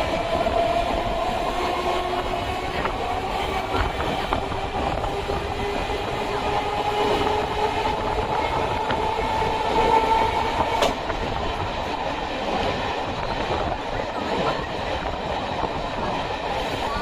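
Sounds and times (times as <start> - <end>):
train hum: 0.0 - 17.0
train wheels rumbling on rails: 0.0 - 17.0.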